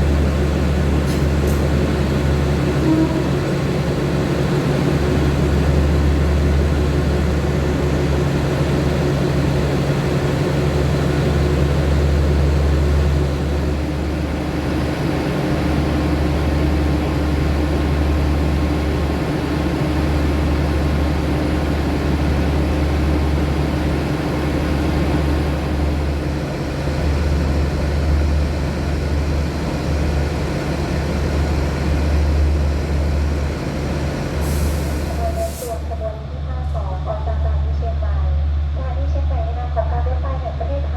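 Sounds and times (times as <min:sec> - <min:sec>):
diesel locomotive engine idling: 0:00.0 - 0:40.9.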